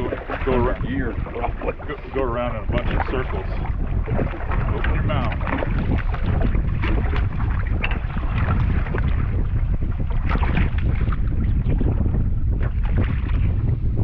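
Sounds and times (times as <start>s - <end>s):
water splashing against boat: 0.0s - 14.0s
wind buffeting microphone: 0.0s - 14.0s.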